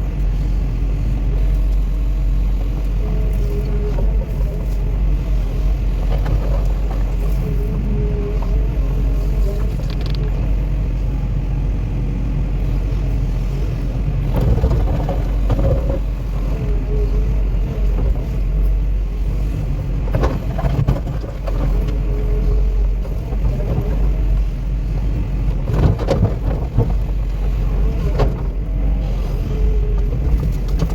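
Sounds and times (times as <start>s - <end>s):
diesel engine rumbling under load: 0.0s - 30.9s
excavator scraping and clattering: 1.4s - 10.9s, 13.3s - 30.9s.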